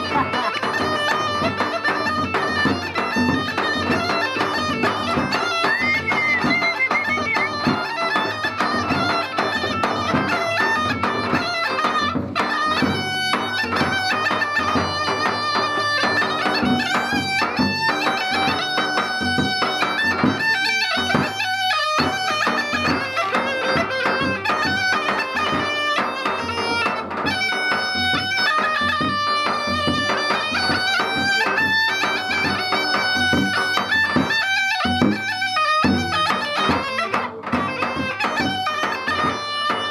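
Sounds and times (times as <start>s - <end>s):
bagpipe playing folk melody: 0.0s - 39.9s
drum beating: 0.0s - 39.9s.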